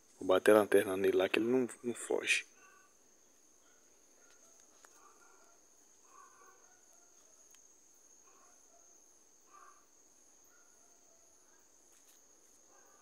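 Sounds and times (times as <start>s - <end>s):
faint pulsing insect call: 0.0s - 13.0s.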